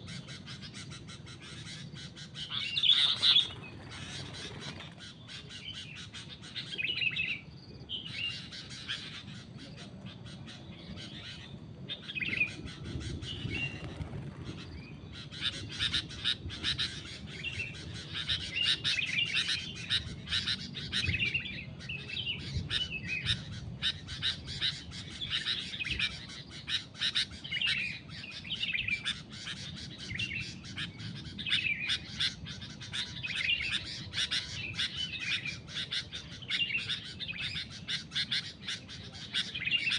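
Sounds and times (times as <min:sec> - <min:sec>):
bulbuls chirping: 0:00.0 - 0:39.9.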